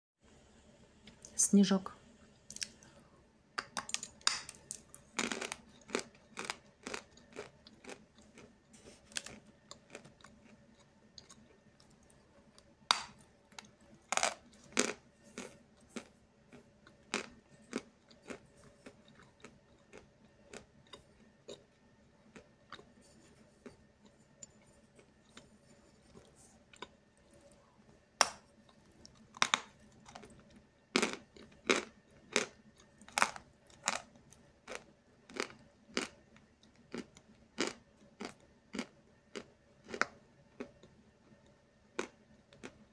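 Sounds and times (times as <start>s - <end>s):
crunchy chewing of chalk: 4.5s - 27.8s, 28.6s - 42.9s.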